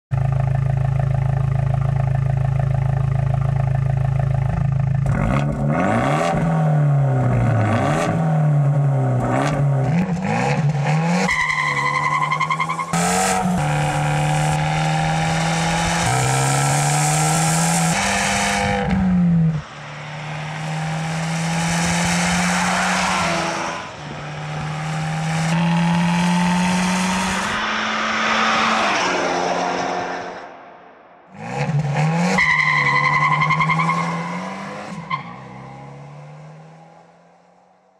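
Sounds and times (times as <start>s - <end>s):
car engine revving and accelerating: 4.5s - 30.6s, 31.3s - 37.3s.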